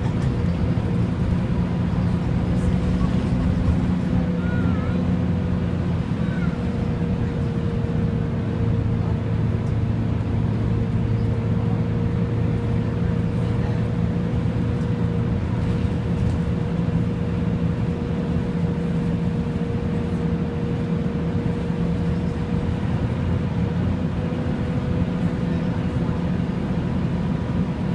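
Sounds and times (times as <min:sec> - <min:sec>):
bus cooling fan drone: 0:00.0 - 0:27.9
bus engine running: 0:00.0 - 0:27.9.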